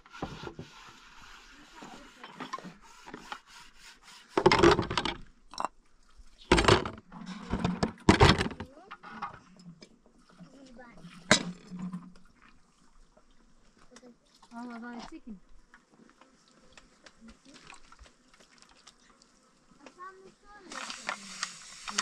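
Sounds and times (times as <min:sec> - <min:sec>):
objects scraping and rustling: 0:00.0 - 0:05.8, 0:06.4 - 0:12.6, 0:14.9 - 0:22.0.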